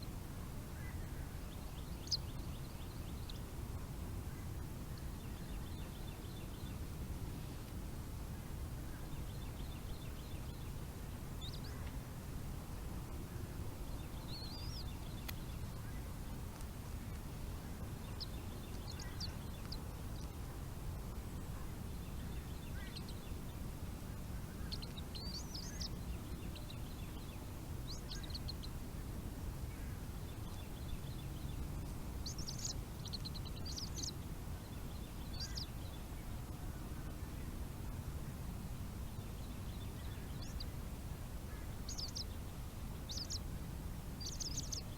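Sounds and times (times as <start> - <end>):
low wind-like rumble: 0.0 - 44.9.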